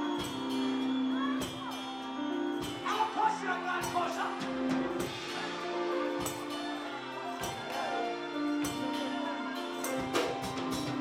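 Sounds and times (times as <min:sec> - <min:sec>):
drum kit beat: 0:00.0 - 0:11.0
live gospel band playing: 0:00.0 - 0:11.0.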